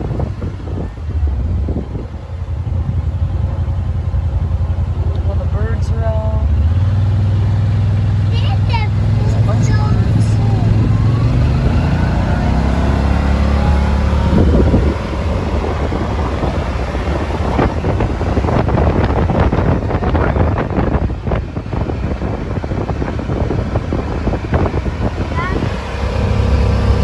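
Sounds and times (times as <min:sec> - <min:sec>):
vehicle engine hum: 0:00.0 - 0:27.0
wind buffeting microphone: 0:00.0 - 0:27.0.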